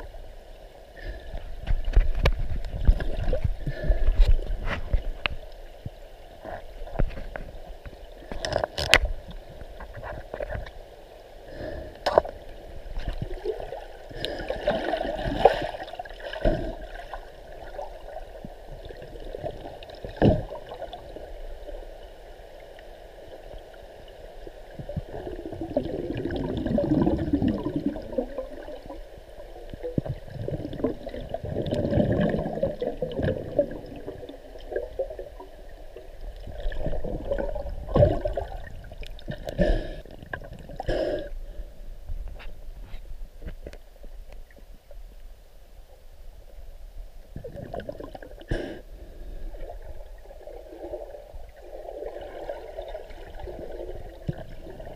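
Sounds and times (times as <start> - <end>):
muffled underwater sloshing: 0.0 - 54.9.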